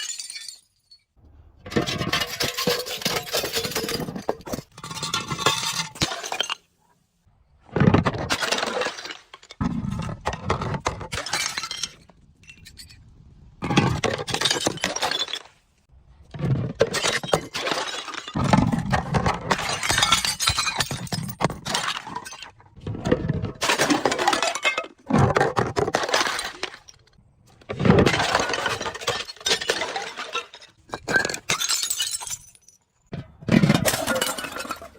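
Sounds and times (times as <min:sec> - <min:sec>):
glass crushing and breaking: 0:00.0 - 0:06.7, 0:07.9 - 0:15.6, 0:16.4 - 0:22.6, 0:23.3 - 0:34.9.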